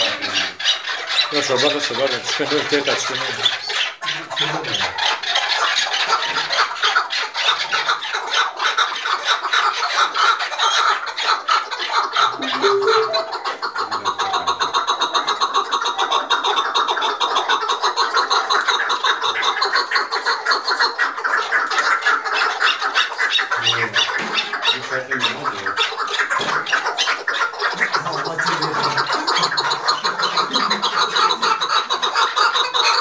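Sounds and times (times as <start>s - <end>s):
partridges calling: 0.0s - 33.0s.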